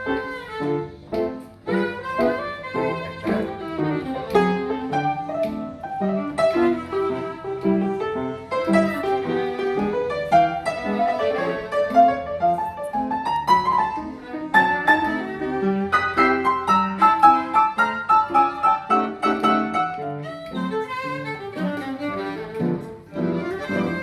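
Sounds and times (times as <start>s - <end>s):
piano playing low notes: 0.0s - 24.0s
violin melody: 0.0s - 24.0s.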